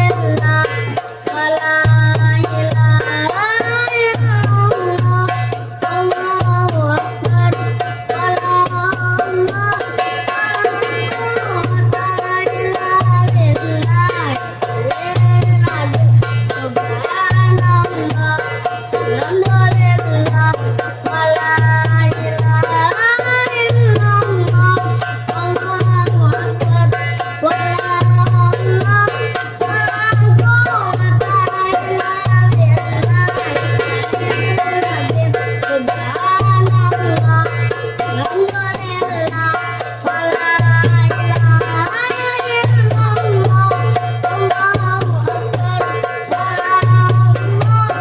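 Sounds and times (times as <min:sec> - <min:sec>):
boy singing: 0:00.0 - 0:48.0
goblet drum rhythm: 0:00.0 - 0:48.0.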